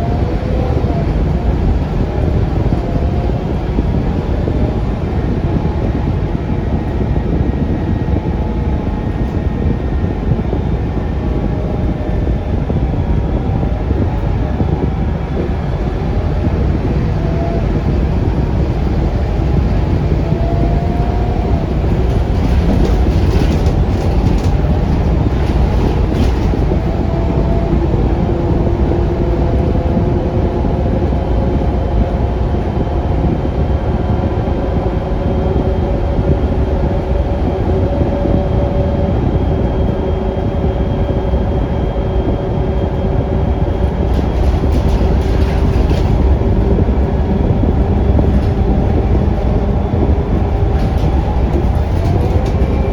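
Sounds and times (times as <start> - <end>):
bus engine rumble: 0.0 - 52.9
road noise: 0.0 - 52.9
transmission whine: 0.0 - 52.9.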